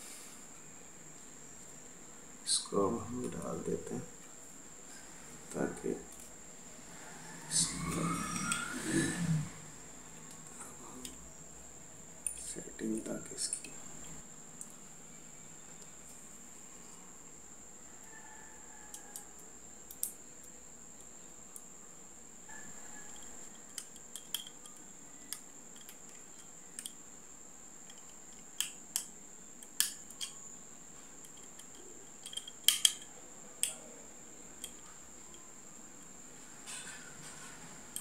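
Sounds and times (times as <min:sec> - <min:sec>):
faint high-pitched whine: 0:00.0 - 0:38.0.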